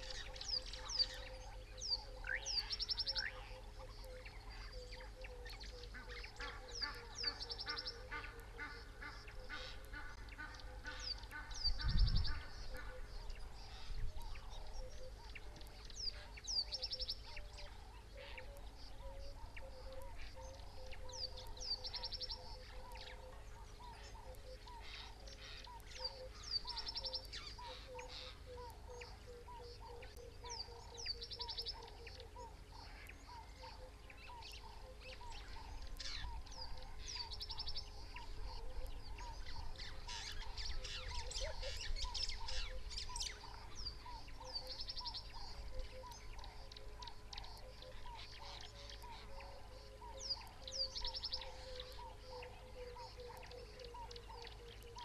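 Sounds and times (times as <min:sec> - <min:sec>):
low rhythmic bird calling: 0:00.0 - 0:55.0.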